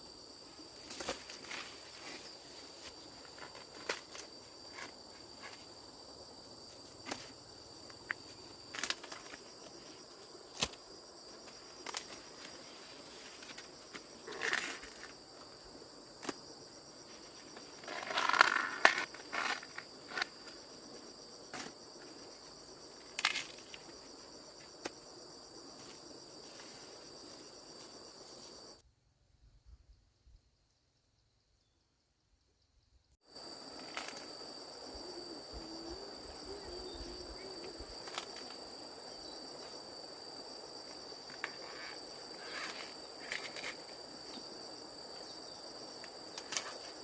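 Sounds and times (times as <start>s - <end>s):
insect chorus: 0.0s - 47.0s.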